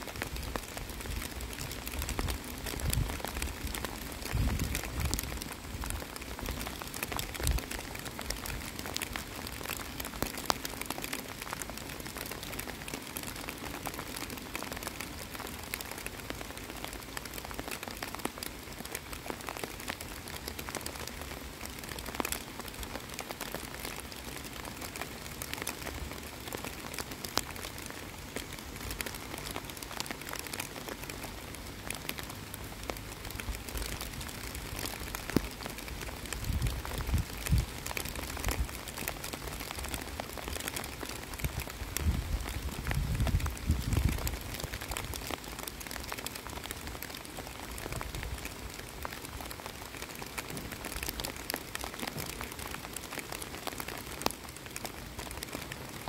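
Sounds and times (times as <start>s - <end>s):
rain falling on pond and grass: 0.0s - 56.0s.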